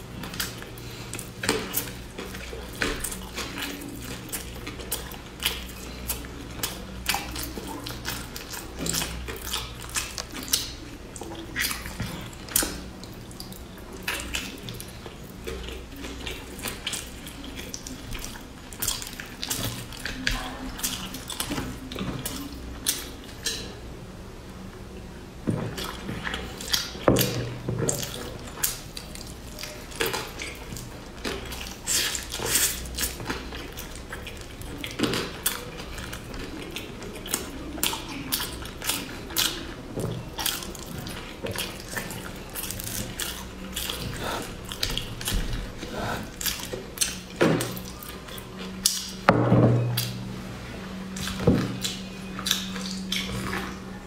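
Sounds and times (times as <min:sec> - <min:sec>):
person chewing: 0:00.0 - 0:23.8, 0:25.7 - 0:50.3, 0:51.0 - 0:54.0.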